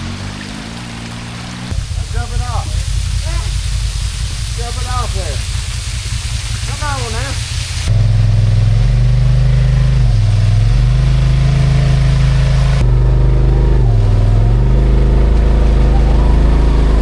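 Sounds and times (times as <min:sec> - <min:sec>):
utv engine revving: 0:00.0 - 0:17.0.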